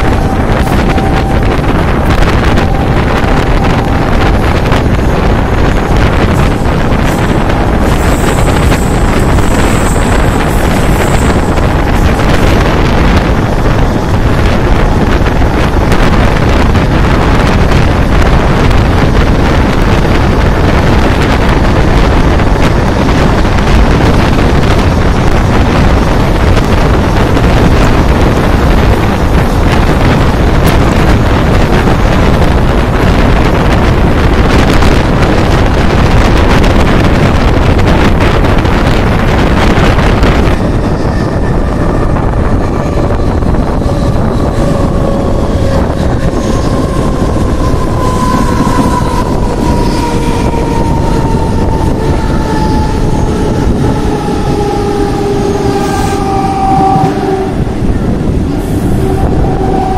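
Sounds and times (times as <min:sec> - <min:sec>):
train rumbling on track: 0:00.0 - 0:59.9
wind buffeting microphone: 0:00.0 - 0:59.9.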